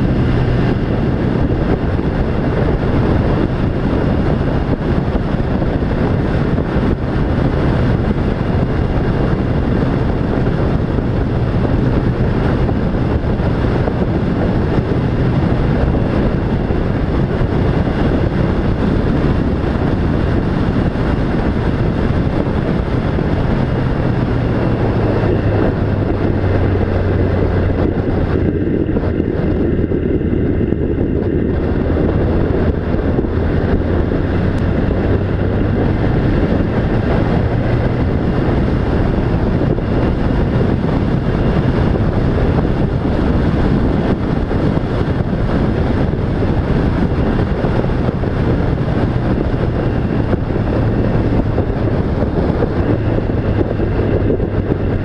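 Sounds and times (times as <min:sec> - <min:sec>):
engine running: 0:00.0 - 0:55.0
rushing wind: 0:00.0 - 0:55.0.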